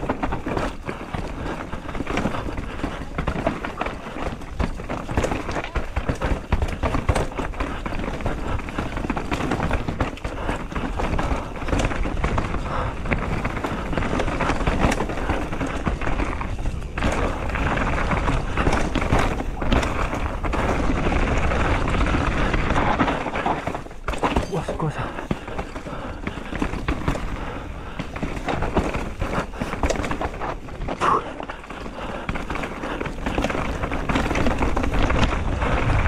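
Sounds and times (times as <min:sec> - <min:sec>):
bike knocking and rattling: 0:00.0 - 0:36.0
bike tyres rumbling over dirt: 0:00.0 - 0:36.0.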